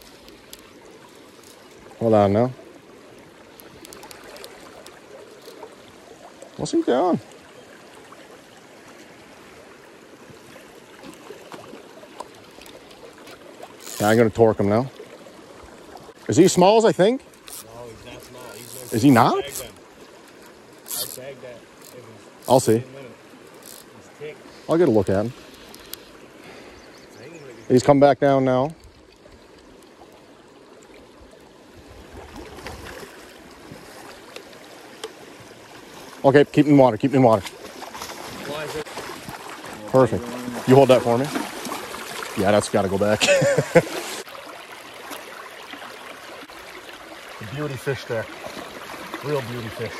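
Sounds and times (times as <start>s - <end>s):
river water running: 0.0s - 49.9s.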